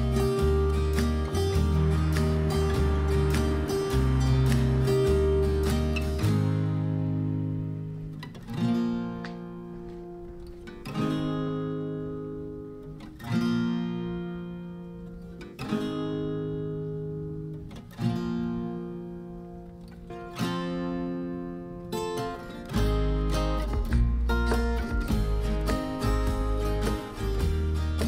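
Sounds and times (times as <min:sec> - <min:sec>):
slow acoustic guitar chords: 0:00.0 - 0:28.0.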